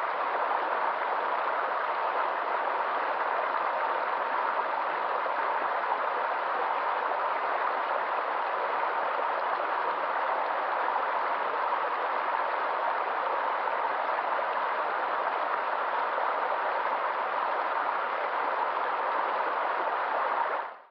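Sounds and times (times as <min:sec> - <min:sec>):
water rushing: 0:00.0 - 0:20.8.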